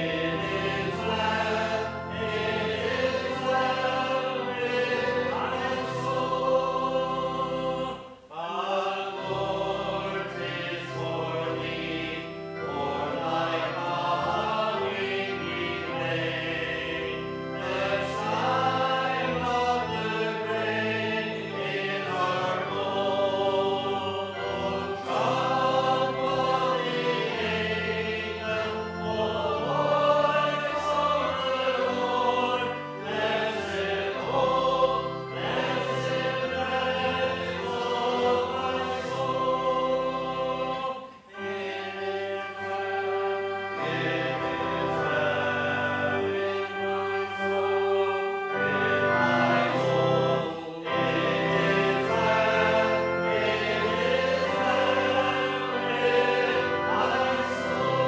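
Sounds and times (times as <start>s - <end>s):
group singing worship song: 0.0s - 58.0s
musical accompaniment: 0.0s - 58.0s.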